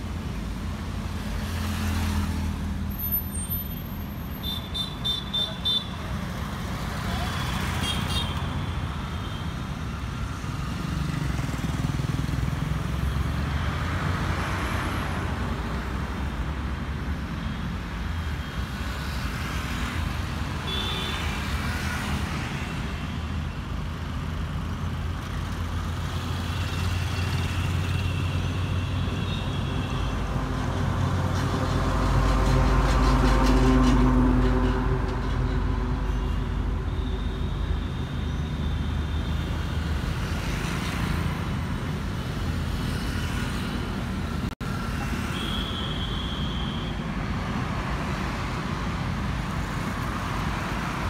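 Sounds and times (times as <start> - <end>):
road traffic rumble: 0.0 - 51.0.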